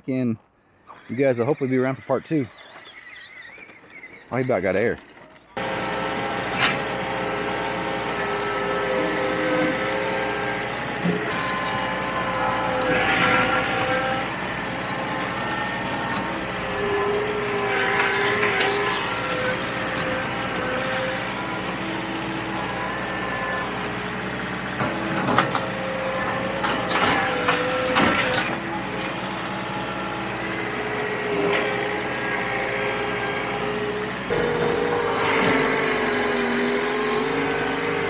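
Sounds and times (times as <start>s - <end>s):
tractor diesel engine under load: 5.6s - 38.0s.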